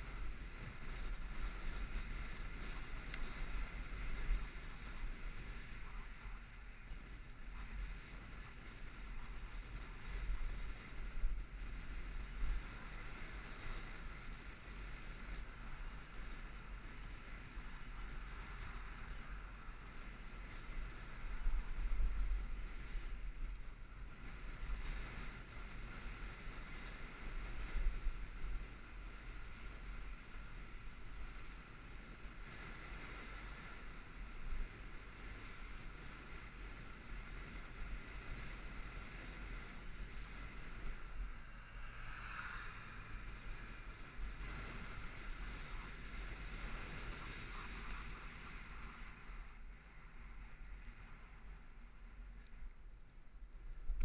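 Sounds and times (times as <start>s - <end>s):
road noise rumble: 0.0s - 54.0s
wind buffeting microphone: 0.0s - 54.0s.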